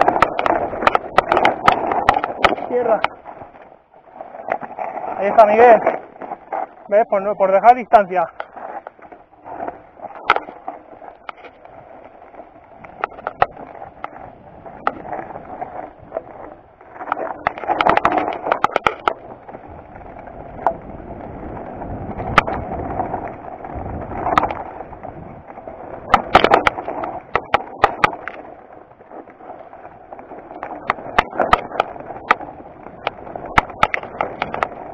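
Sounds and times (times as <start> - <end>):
bike clattering over rocks: 0.0 - 3.7, 4.3 - 34.9
bike tyres grinding over gravel: 0.0 - 34.9.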